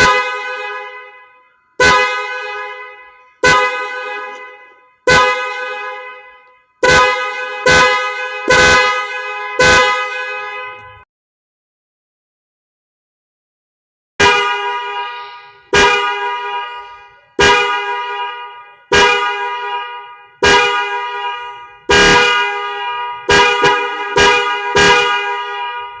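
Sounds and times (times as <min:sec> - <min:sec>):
car horn two-note blasts: 0:00.0 - 0:11.0, 0:14.2 - 0:26.0.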